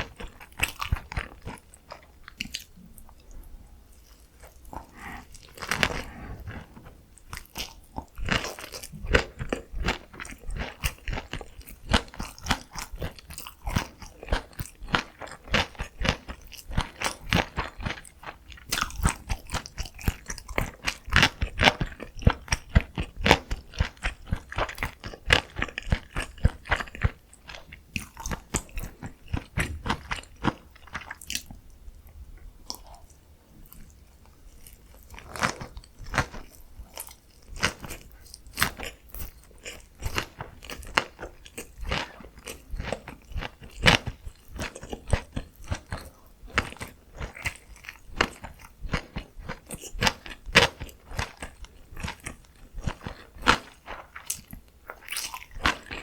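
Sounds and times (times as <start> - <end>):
crunchy food chewing: 0.0 - 56.0.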